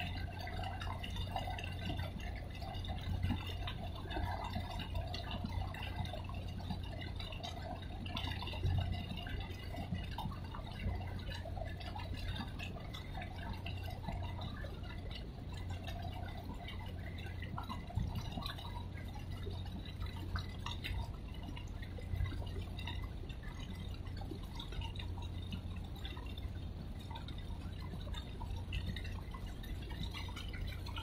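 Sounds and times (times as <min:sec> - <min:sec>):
steady low hum: 0:00.0 - 0:31.0
water lapping against quay wall: 0:00.0 - 0:31.0.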